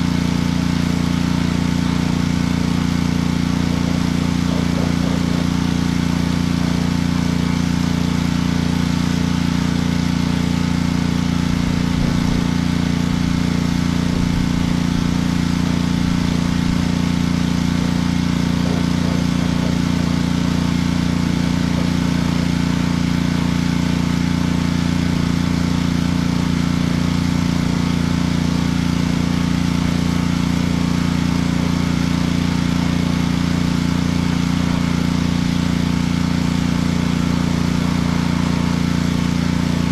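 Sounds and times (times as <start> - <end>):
pressure washer motor hum: 0.0 - 39.9
water spray hiss: 0.0 - 39.9.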